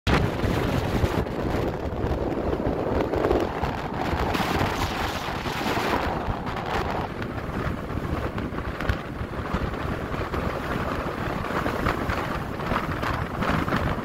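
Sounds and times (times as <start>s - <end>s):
strong wind buffeting microphone: 0.1s - 14.0s.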